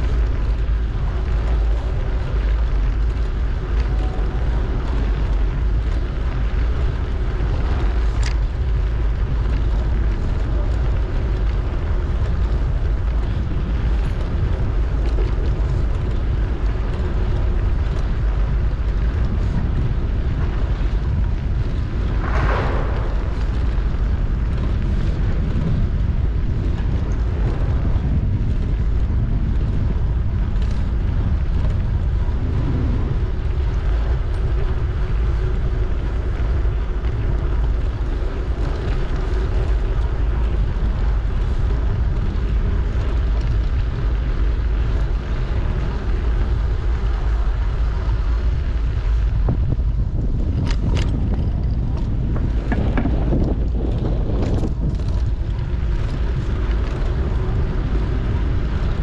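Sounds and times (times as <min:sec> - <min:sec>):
bicycle tyres rolling over paving: 0:00.0 - 0:59.0
wind rumble on microphone: 0:00.0 - 0:59.0.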